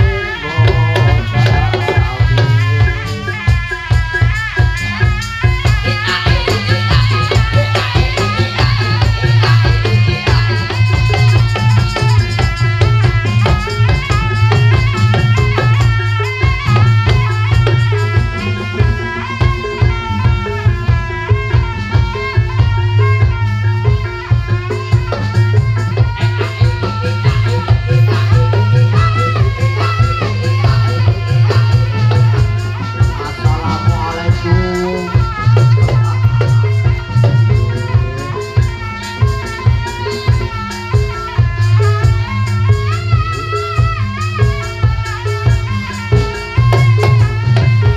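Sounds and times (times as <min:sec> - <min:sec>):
fast drums and percussion: 0:00.0 - 0:47.9
pitched melodic line: 0:00.0 - 0:47.9.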